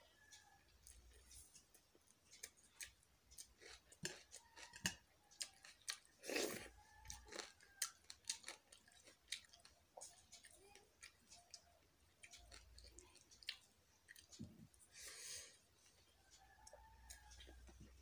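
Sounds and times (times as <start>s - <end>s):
person eating rice by hand: 0.4s - 18.0s.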